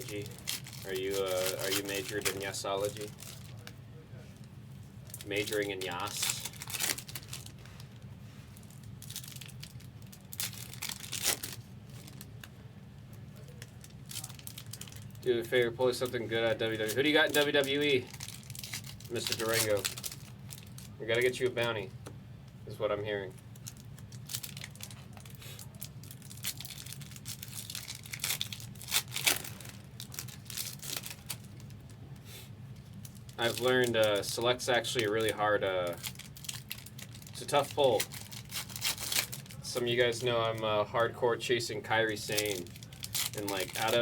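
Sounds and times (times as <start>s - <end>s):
wrappers crinkling and tearing: 0.0s - 3.8s, 4.4s - 21.9s, 23.3s - 32.2s, 32.8s - 44.0s
low steady hum: 0.0s - 44.0s.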